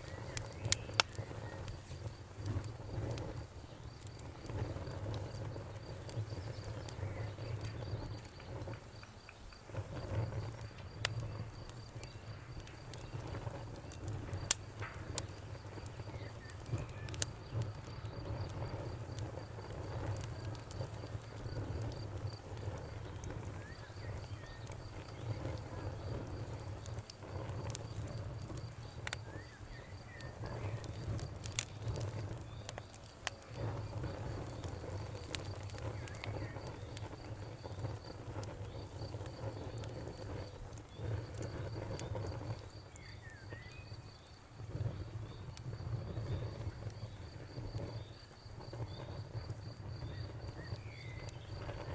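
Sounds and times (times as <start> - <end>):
campfire crackling and popping: 0.0 - 51.9
cricket chirping trill: 0.0 - 51.9.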